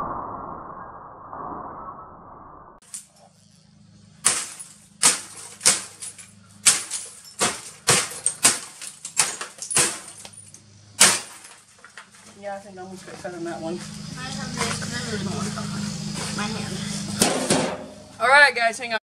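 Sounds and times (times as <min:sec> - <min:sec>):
steady low hum: 0:02.8 - 0:19.0.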